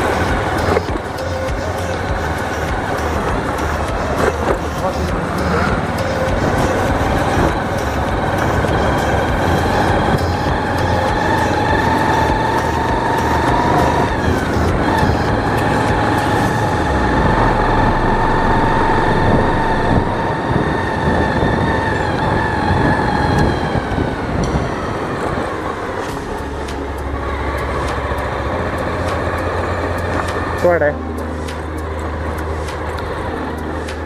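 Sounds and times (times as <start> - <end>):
motorcycle whine: 0.0 - 34.0
rumbling road and wind noise: 0.0 - 34.0.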